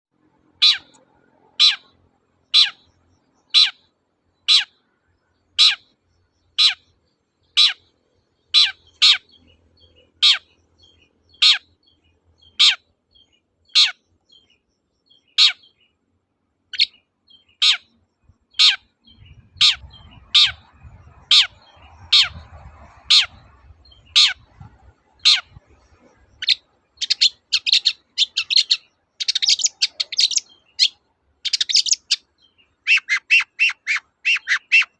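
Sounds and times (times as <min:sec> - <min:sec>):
shrike calling: 0:00.5 - 0:04.8, 0:05.6 - 0:14.2, 0:15.2 - 0:15.8, 0:16.7 - 0:34.9.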